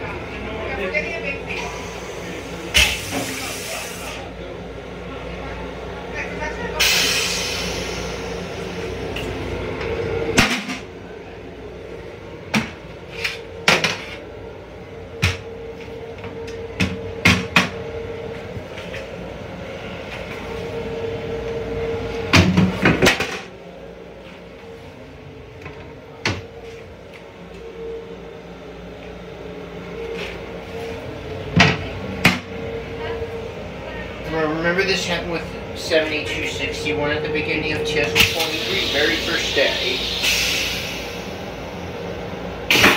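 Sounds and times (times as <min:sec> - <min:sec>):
railcar hum: 0:00.0 - 0:42.9.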